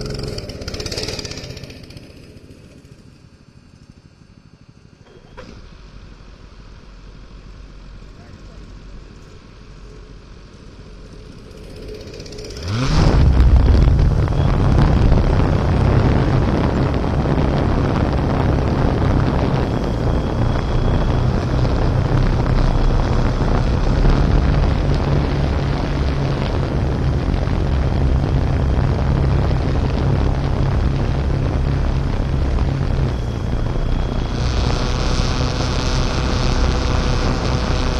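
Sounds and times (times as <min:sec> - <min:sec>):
drone rotor noise: 0:00.0 - 0:37.9
drone motors whining: 0:04.6 - 0:37.9.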